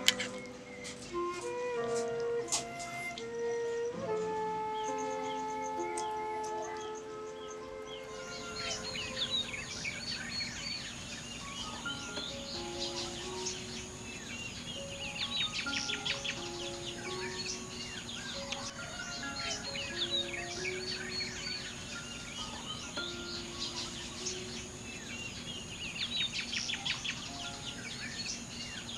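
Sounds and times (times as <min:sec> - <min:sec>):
high insect drone: 0:00.0 - 0:28.9
small birds chirping and trilling: 0:00.0 - 0:28.9
soft slow music: 0:00.0 - 0:28.9.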